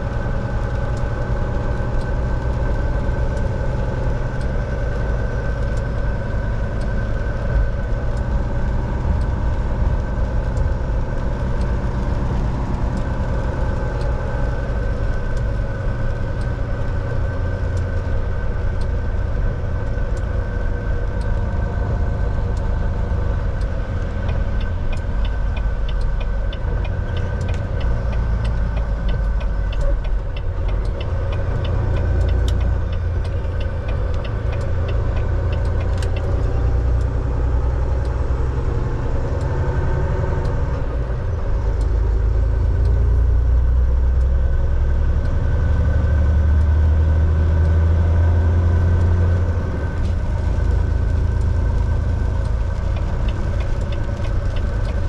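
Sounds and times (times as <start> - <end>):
diesel truck engine drone: 0.0 - 55.0
road noise: 0.0 - 55.0
regular ticking: 4.2 - 44.5, 47.5 - 55.0.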